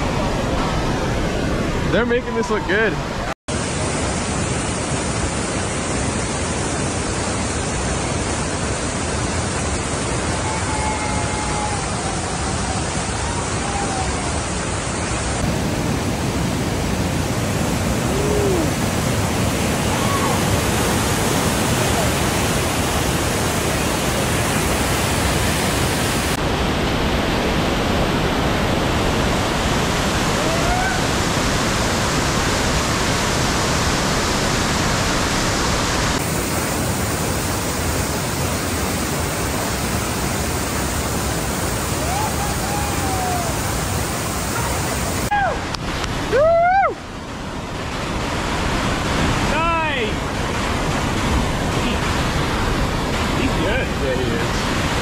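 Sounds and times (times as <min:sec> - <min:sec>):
rushing whitewater rapids: 0:00.0 - 0:55.0.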